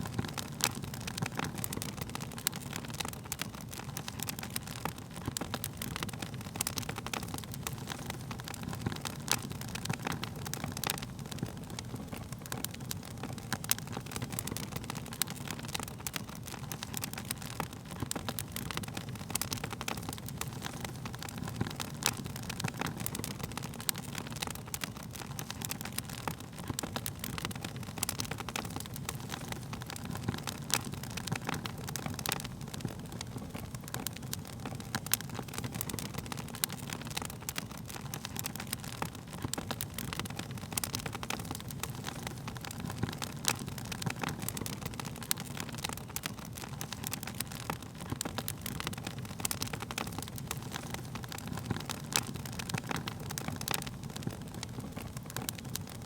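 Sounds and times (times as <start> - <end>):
burning wood crackling and popping: 0.0 - 56.0
low rumble of flames: 0.0 - 56.0.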